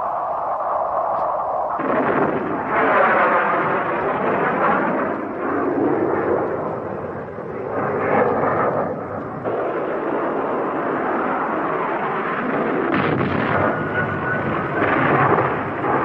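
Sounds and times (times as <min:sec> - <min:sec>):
jet roar: 0:00.0 - 0:16.0.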